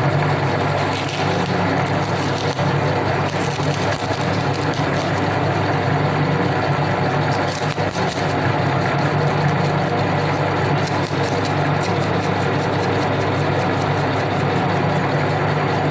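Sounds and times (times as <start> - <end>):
grinding clicks and crackles: 0.0 - 15.9
meat grinder motor humming: 0.0 - 15.9.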